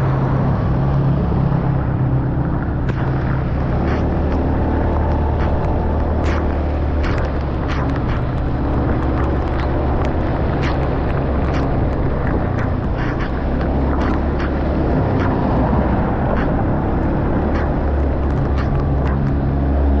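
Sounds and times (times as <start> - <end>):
engine running steadily: 0.0 - 20.0
rushing noise: 0.0 - 20.0.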